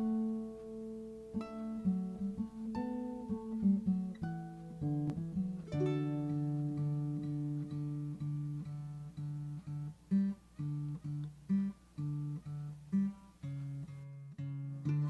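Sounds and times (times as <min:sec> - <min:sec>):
acoustic guitar plucking: 0:00.0 - 0:15.0.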